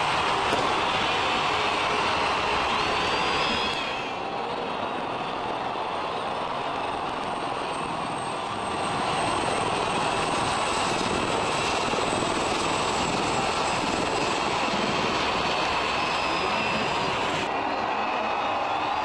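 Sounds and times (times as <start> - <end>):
large crowd cheering: 0.0 - 10.2, 13.1 - 19.0
helicopters flying overhead: 0.0 - 19.0.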